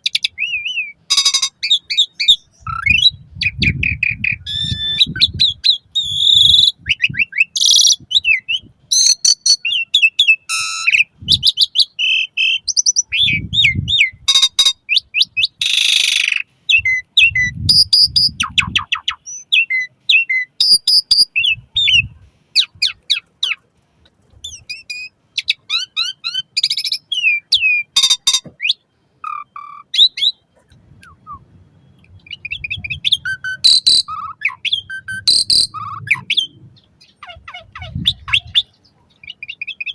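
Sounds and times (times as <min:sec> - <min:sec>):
starling singing: 0:00.0 - 0:23.7, 0:24.4 - 0:39.9.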